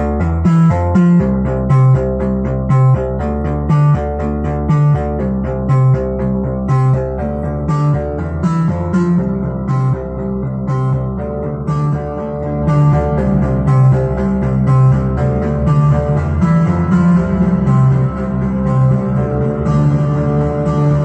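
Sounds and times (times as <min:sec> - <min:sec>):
plucky synthesizer line: 0:00.0 - 0:21.0
synth bass pattern: 0:00.0 - 0:21.0.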